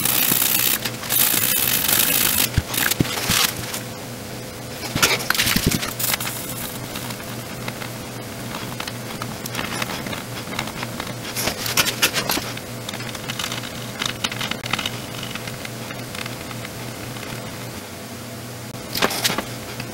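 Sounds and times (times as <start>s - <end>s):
solder crackling and sizzling: 0.0s - 18.0s.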